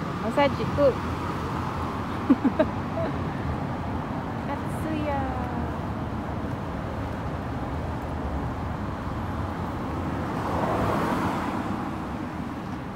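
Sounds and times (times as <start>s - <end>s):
road traffic rumble: 0.0s - 12.9s
vehicle passing: 0.0s - 12.9s.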